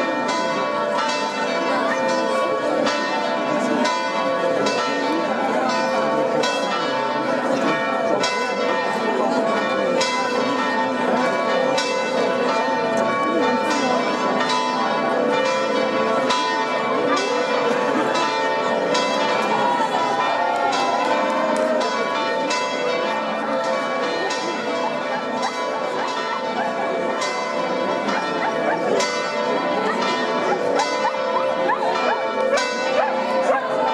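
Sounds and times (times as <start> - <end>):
church bells pealing: 0.0 - 33.9
murmur of voices: 0.0 - 33.9.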